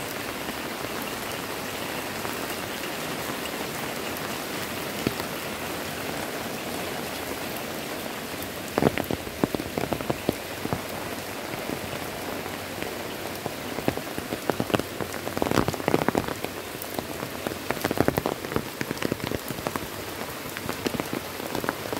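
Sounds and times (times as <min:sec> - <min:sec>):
close raindrops tapping: 0:00.0 - 0:21.9
heavy rain hissing: 0:00.0 - 0:21.9.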